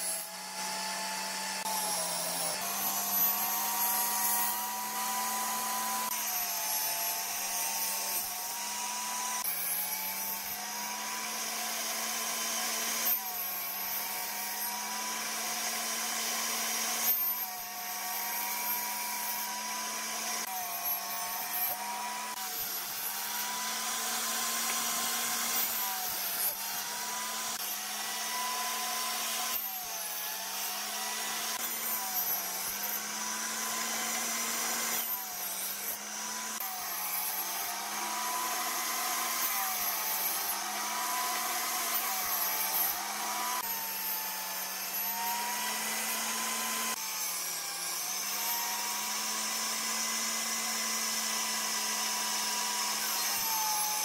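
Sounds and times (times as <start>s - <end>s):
saw blade cutting wood: 0.0s - 54.0s
table saw running: 0.0s - 54.0s.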